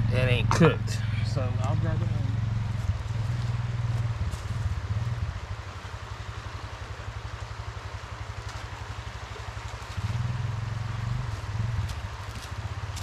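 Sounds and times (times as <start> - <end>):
engine idling with rapid pulsing: 0.0 - 13.0.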